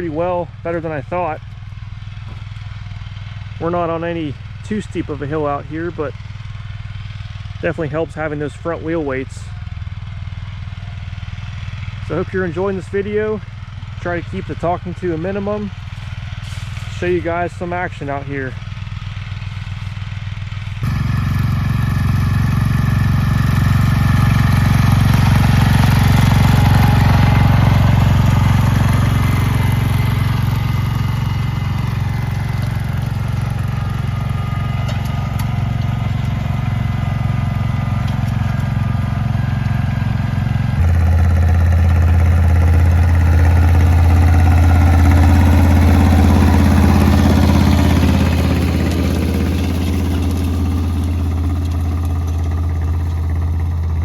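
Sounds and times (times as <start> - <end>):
garden tractor engine running: 0.0 - 54.0.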